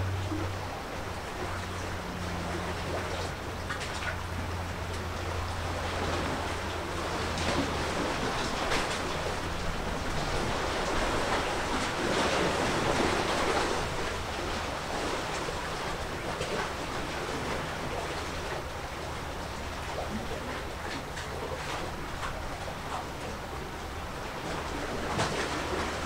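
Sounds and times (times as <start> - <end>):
low steady hum: 0.0 - 26.0
sea waves washing in: 0.0 - 26.0.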